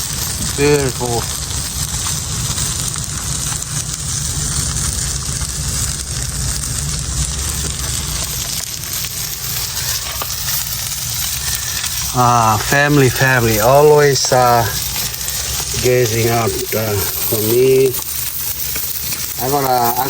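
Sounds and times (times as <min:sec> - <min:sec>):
fish sizzling: 0:00.0 - 0:20.0.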